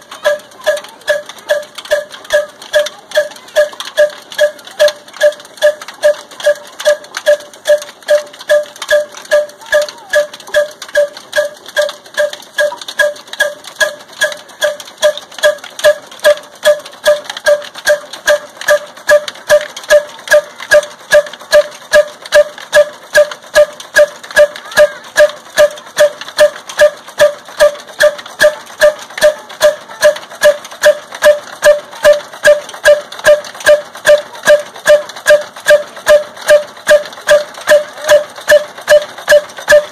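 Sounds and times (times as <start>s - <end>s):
flour mill running: 0.0s - 39.9s
single-cylinder engine running: 0.0s - 39.9s.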